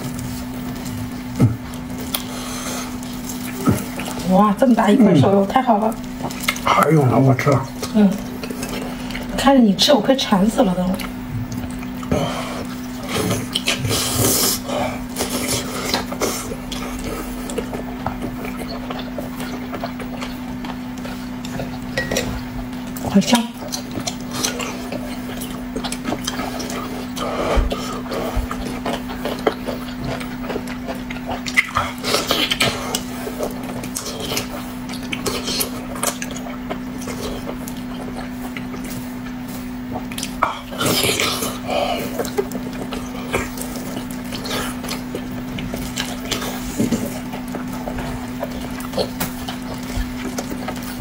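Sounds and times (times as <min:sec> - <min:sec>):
person chewing: 0:00.0 - 0:04.3, 0:04.9 - 0:09.4, 0:10.9 - 0:51.0
steady low hum: 0:00.0 - 0:51.0.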